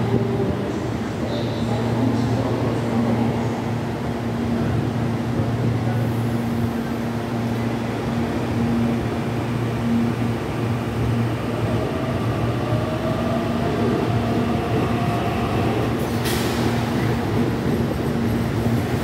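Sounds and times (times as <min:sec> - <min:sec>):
train electrical hum: 0:00.0 - 0:19.0.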